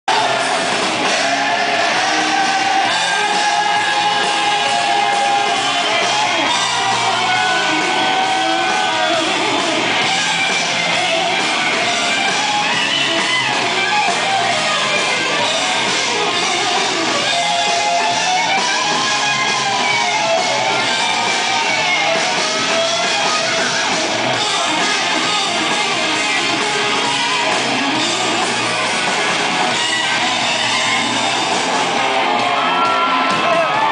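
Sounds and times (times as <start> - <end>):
gliding lead guitar line: 0.1 - 33.9
live rock band playing: 0.1 - 33.9.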